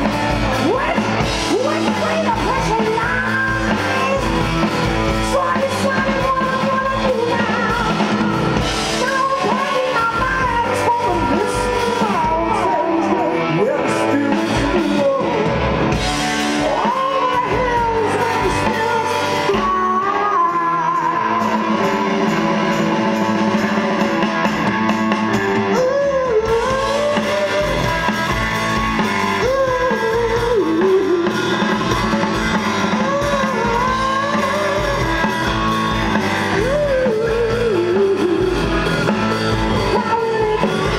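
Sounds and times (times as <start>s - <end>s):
drum kit: 0.0s - 40.9s
electric guitar: 0.0s - 40.9s
person singing: 0.0s - 40.9s.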